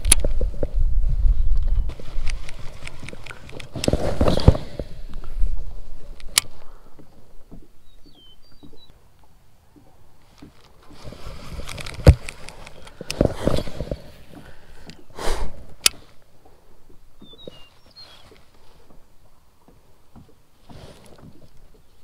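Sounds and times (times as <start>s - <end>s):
water lapping against hull: 0.0s - 22.0s.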